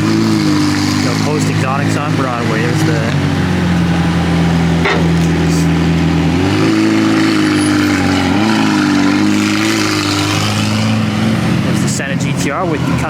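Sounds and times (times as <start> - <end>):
sports car engines at low revs: 0.0 - 13.0.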